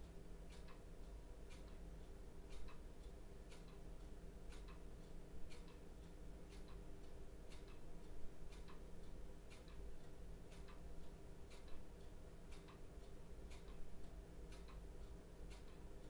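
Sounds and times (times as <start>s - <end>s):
clock ticking: 0.0s - 16.0s
faint low room hum: 0.0s - 16.0s.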